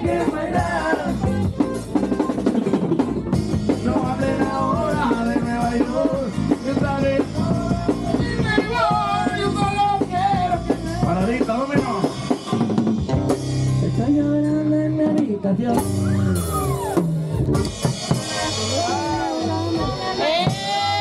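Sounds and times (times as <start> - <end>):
drum kit beat: 0.0 - 21.0.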